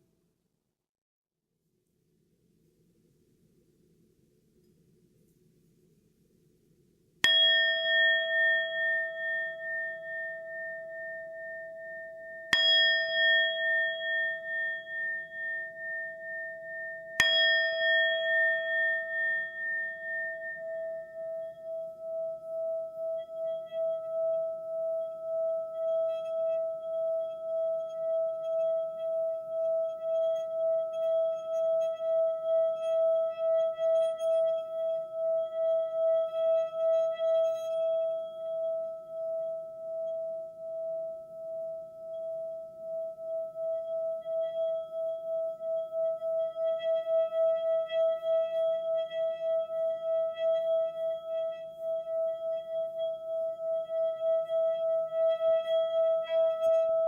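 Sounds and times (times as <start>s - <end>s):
singing bowl ringing: 7.2s - 57.0s.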